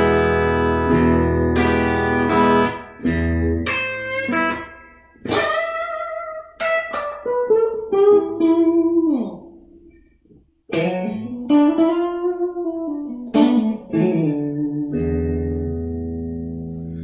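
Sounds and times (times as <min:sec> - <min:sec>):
electric guitar playing: 0:00.0 - 0:10.1, 0:10.7 - 0:17.0.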